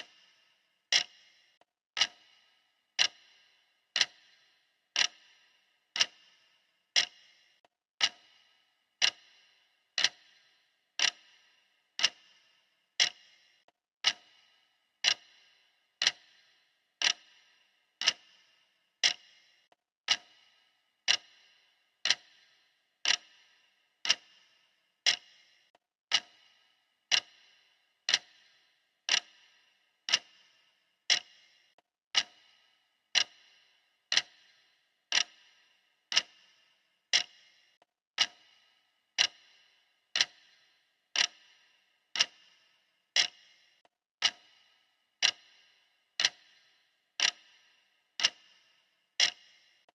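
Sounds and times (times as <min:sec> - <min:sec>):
clock ticking: 0:00.0 - 0:49.9.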